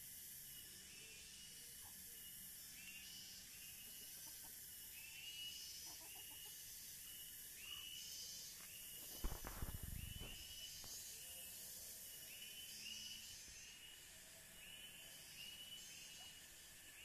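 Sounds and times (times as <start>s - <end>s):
high insect-like hiss: 0.0s - 17.0s.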